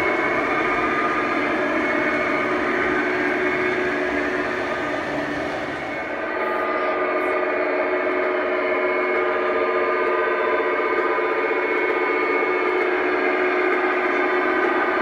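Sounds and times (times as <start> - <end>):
model locomotives whirring hum: 0.0 - 15.0
wheels rumbling on rail: 0.0 - 15.0.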